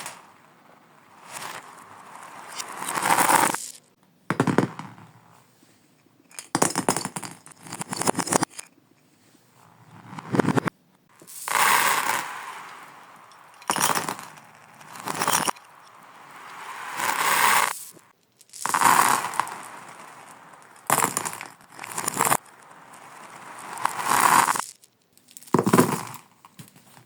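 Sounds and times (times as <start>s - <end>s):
reversed beads clattering: 0.0s - 4.0s, 6.3s - 8.7s, 9.6s - 26.6s.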